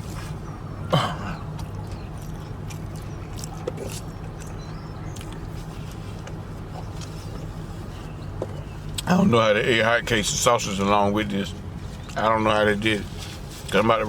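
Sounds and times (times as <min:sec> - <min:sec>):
truck idling: 0:00.0 - 0:14.0.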